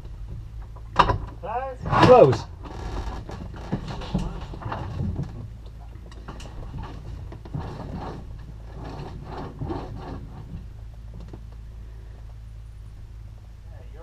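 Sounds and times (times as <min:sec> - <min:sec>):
handling clicks knocks and rustles: 0:00.0 - 0:11.6
steady low hum: 0:00.0 - 0:14.0.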